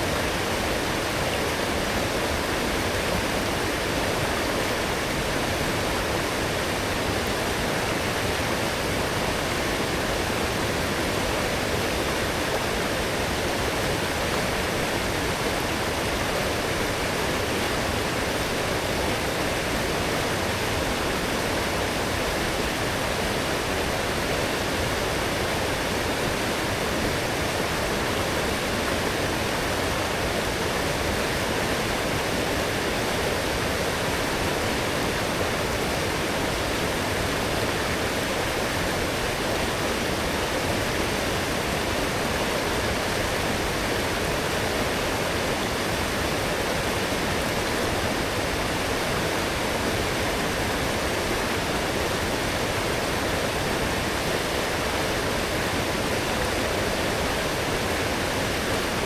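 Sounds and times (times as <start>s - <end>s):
stream rushing and splashing: 0.0s - 59.0s.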